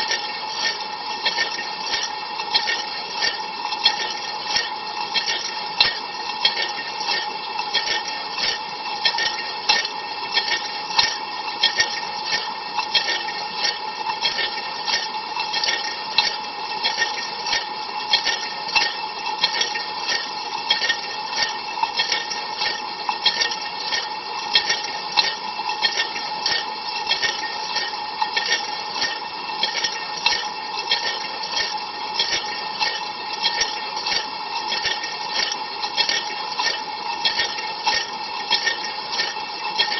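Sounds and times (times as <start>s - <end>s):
dishwasher hum: 0.0s - 39.9s.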